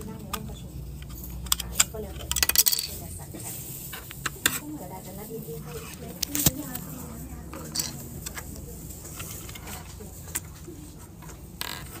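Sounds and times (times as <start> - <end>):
plastic scrape: 0.2 - 12.0.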